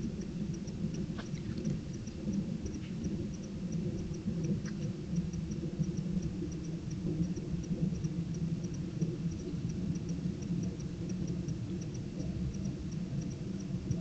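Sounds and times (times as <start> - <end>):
faint high-pitched ticks: 0.0 - 14.0
steady low rumble: 0.0 - 14.0.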